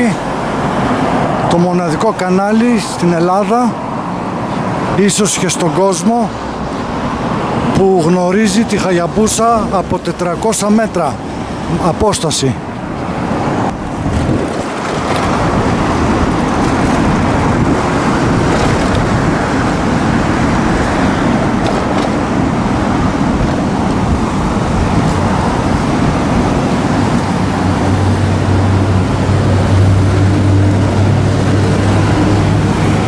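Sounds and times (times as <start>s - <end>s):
road traffic noise: 0.0s - 33.0s
vehicle engine humming: 0.0s - 33.0s.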